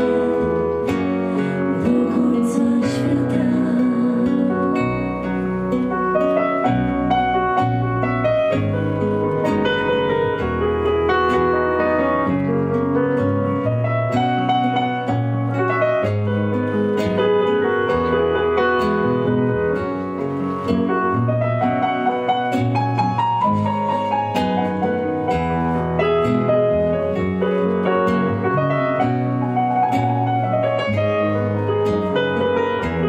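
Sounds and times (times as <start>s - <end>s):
sustained bass notes: 0.0s - 33.0s.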